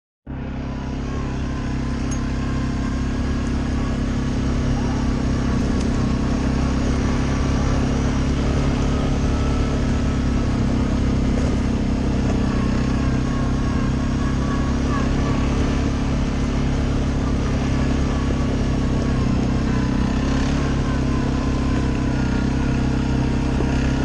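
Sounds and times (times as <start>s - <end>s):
atv engine running: 0.3s - 24.0s.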